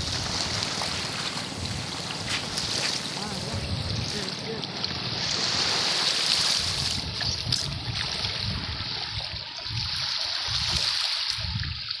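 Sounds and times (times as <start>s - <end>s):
waves lapping over pebbles: 0.0s - 12.0s.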